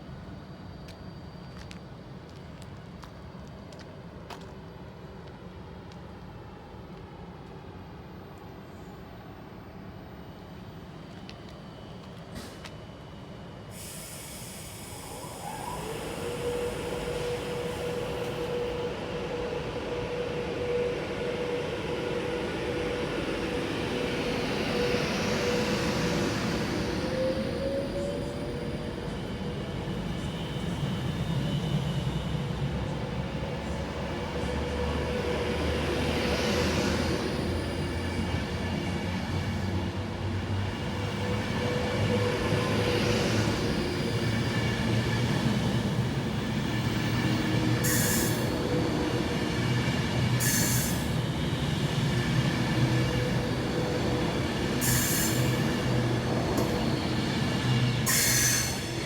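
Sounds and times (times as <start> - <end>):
electric train rumbling past: 0.0 - 59.0.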